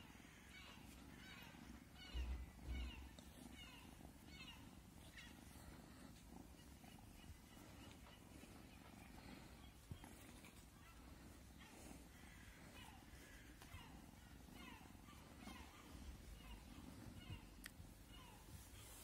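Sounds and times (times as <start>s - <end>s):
kitten purring: 0.9s - 19.0s.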